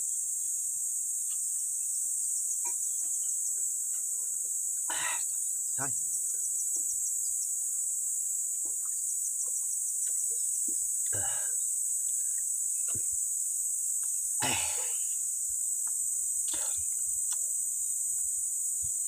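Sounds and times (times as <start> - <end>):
faint chirping ticks: 0.0 - 14.4, 15.0 - 19.0
chorus of insects: 0.0 - 19.0.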